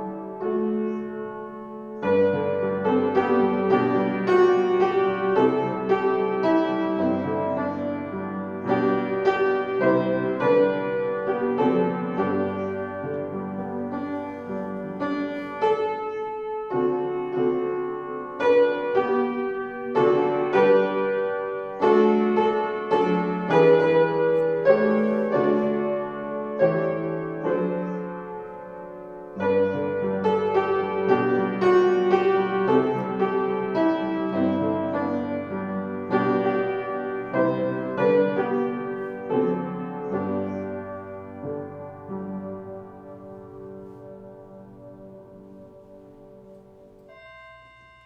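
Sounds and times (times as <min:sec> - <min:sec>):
piano playing chords and melody: 0:00.0 - 0:48.0.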